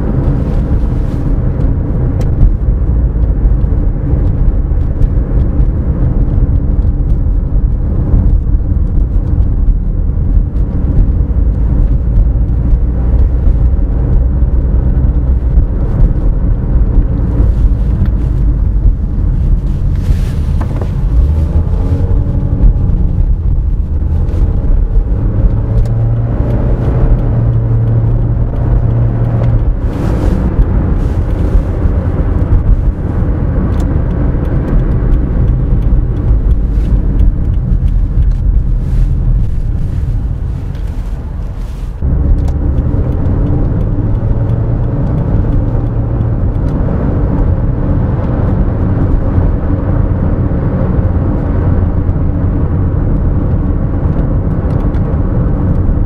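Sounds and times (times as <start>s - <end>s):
car engine running: 0.0s - 56.0s
low steady hum: 0.0s - 56.0s
road and tyre rumble: 0.0s - 56.0s.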